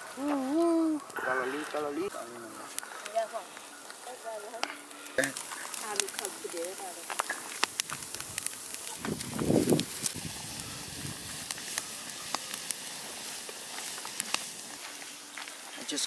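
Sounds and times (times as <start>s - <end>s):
steaks sizzling on grill: 0.0s - 16.0s
wood fire crackling and popping: 0.0s - 16.0s.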